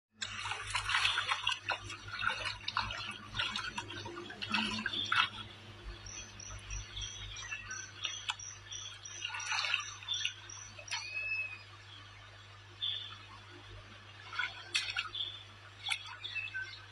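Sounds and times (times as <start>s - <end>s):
river water splashing: 0.2s - 11.8s, 12.5s - 16.9s
bird chirping: 1.9s - 13.4s, 14.5s - 16.9s.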